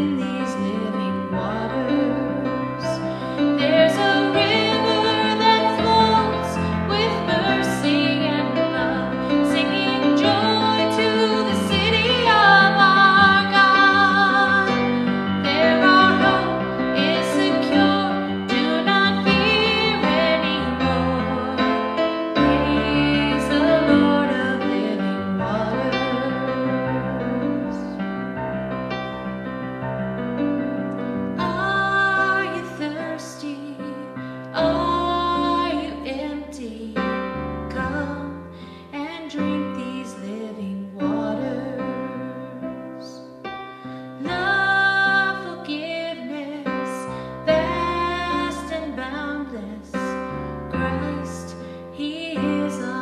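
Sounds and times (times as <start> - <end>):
woman singing: 0.0 - 28.0, 31.4 - 53.0
piano accompaniment: 0.0 - 53.0.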